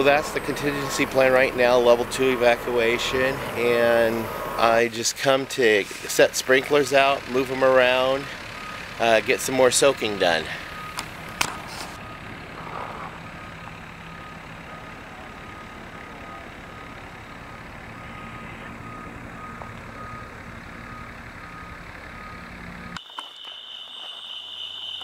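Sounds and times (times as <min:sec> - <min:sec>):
reversing beeper: 0:00.0 - 0:04.8, 0:05.4 - 0:11.0, 0:12.0 - 0:25.0
engine humming: 0:00.0 - 0:23.0.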